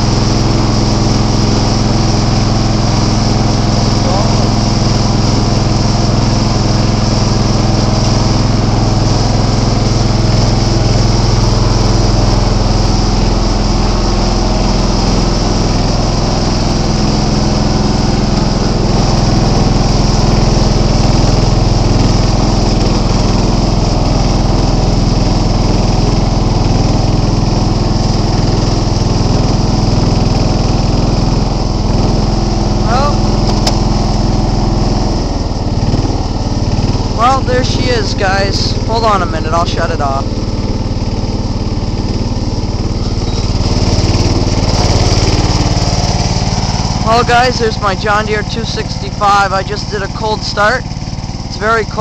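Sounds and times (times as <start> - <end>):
lawn tractor engine running: 0.0 - 52.0.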